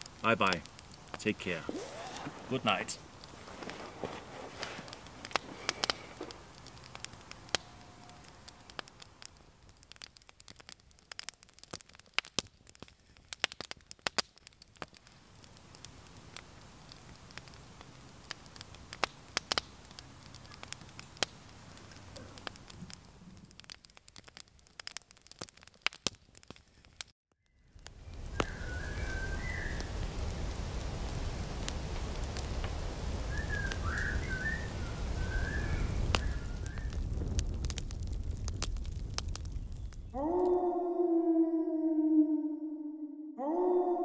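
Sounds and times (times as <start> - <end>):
wood fire crackling: 0.0 - 40.7.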